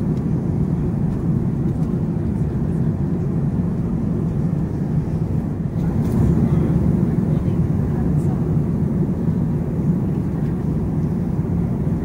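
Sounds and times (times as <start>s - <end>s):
jet airliner engine rumble: 0.0s - 12.0s.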